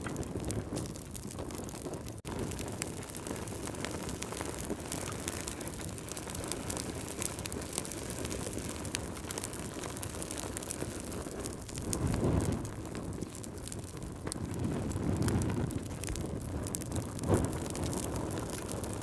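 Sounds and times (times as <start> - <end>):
low surge of flame: 0.0 - 19.0
wood fire crackling: 0.0 - 19.0.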